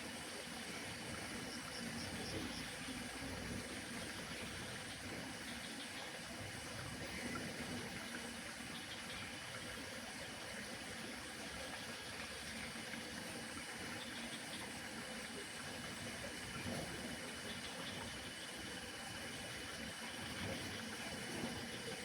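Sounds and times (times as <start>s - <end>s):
hiss of distant running water: 0.0s - 22.0s.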